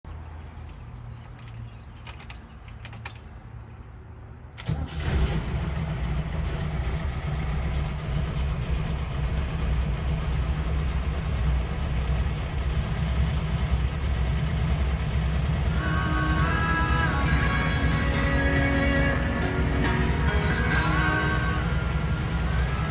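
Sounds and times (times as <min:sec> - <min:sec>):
engine cranking: 0:04.6 - 0:22.9
engine running steadily: 0:04.6 - 0:22.9.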